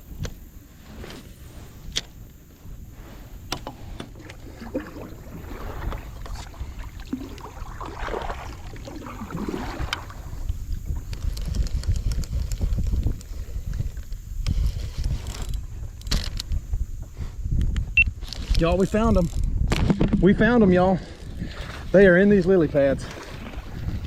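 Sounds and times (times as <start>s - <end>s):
water sloshing around kayak: 0.0s - 17.6s, 19.8s - 24.0s
wind buffeting microphone: 0.0s - 24.0s.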